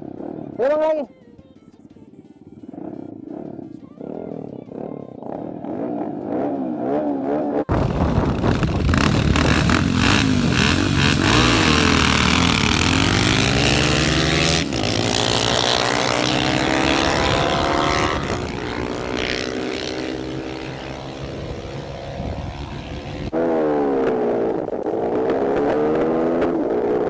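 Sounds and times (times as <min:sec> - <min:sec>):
motorcycle engines at full throttle: 0:00.0 - 0:27.0.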